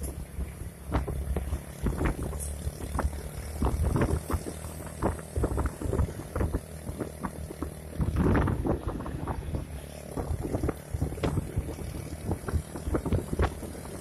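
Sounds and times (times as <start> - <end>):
vehicle engine humming: 0.0 - 14.0
rattling knocks and rumble: 0.2 - 14.0
wind buffeting microphone: 0.4 - 14.0.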